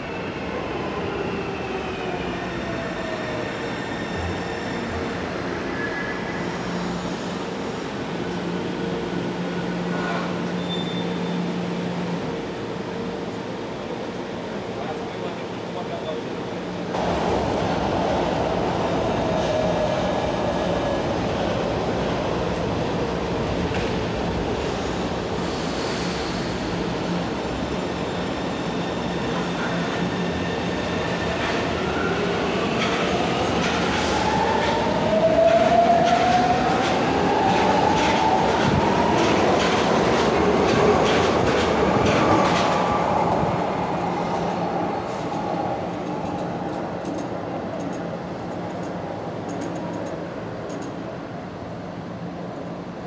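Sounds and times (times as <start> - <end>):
train humming at platform: 0.0 - 53.0.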